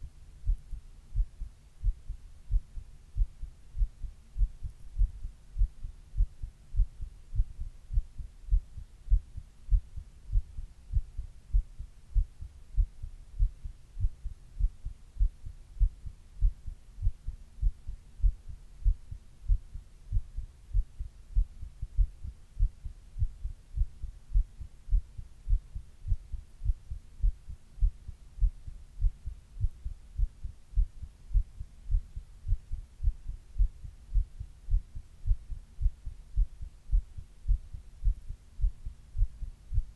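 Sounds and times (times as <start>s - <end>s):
faint steady hum: 0.0s - 39.9s
heartbeat thuds: 0.0s - 39.9s.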